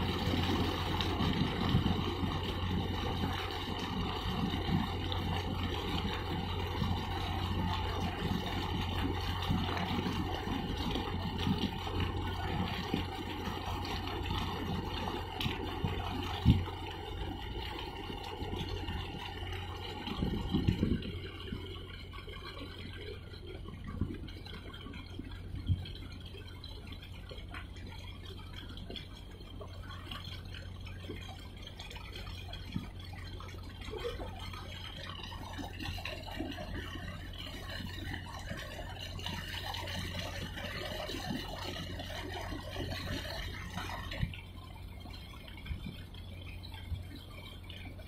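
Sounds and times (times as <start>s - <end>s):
steady low hum: 0.0s - 48.0s
water lapping and splashing: 0.0s - 48.0s.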